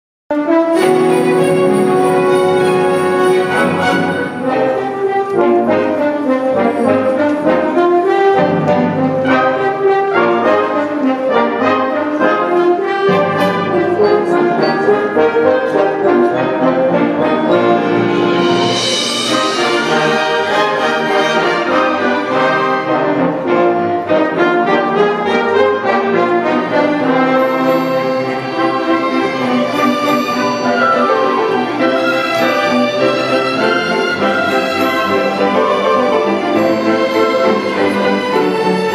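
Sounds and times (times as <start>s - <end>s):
brass playing melody: 0.3s - 38.9s
orchestra sustained chords: 0.7s - 10.6s, 11.8s - 38.9s.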